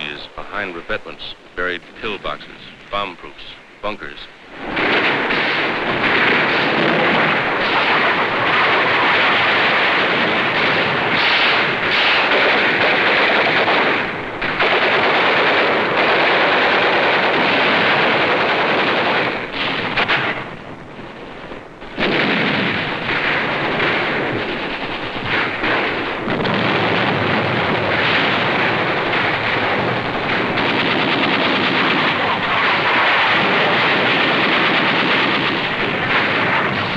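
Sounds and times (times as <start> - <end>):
rifle and machine-gun fire: 4.0 - 36.9.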